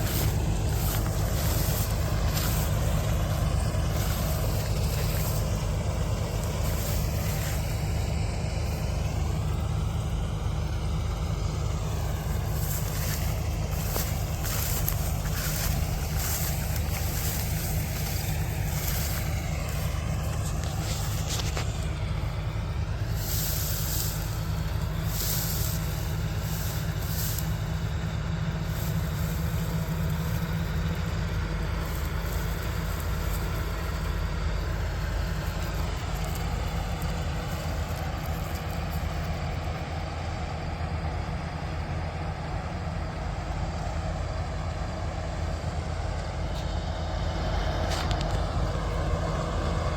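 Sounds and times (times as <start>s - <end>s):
combine harvester engine drone: 0.0s - 49.9s.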